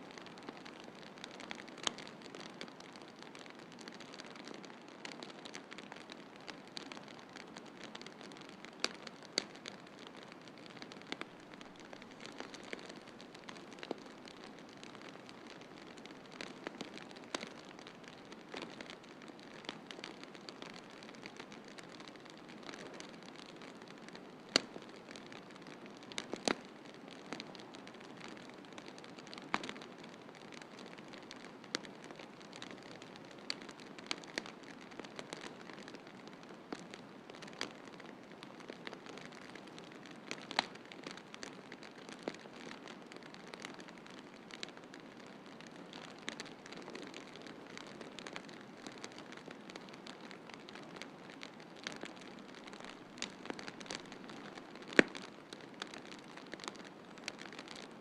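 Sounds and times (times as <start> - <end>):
low fire hiss: 0.0 - 58.0
wood fire crackling and popping: 0.1 - 58.0.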